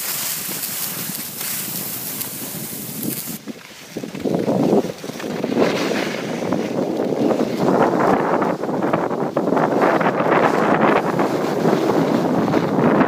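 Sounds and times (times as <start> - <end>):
skis sliding on snow: 0.0 - 13.0
wind buffeting microphone: 0.0 - 13.0.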